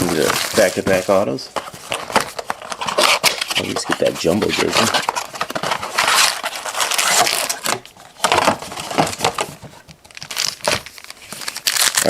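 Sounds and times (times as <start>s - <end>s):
packaging tearing and crackling: 0.0s - 1.3s, 1.9s - 9.4s, 10.0s - 12.0s.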